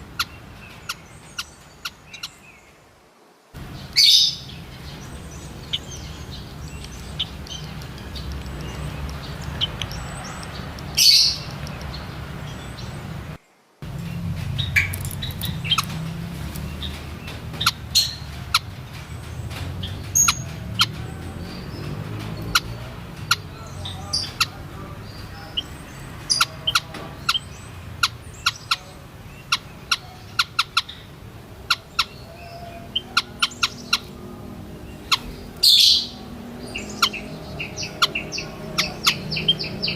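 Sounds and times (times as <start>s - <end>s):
birds chirping: 0.0s - 39.9s
steady low rumble: 3.6s - 39.9s.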